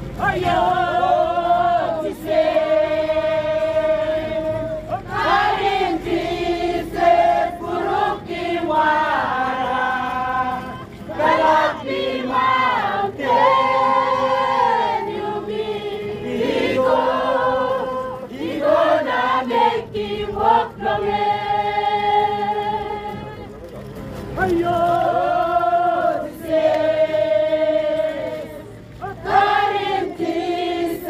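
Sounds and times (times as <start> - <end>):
group singing a hymn: 0.0 - 23.5, 24.4 - 31.0.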